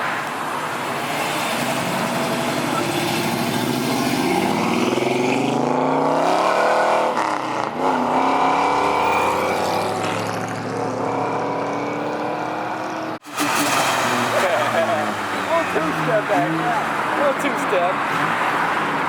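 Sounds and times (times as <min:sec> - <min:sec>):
car engine revving: 0:00.9 - 0:19.0.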